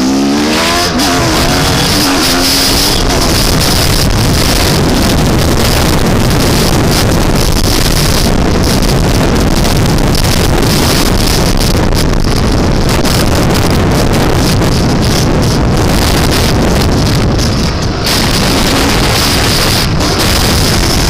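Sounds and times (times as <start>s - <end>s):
dirt bike engine running: 0.0s - 21.0s
wind buffeting microphone: 0.0s - 21.0s.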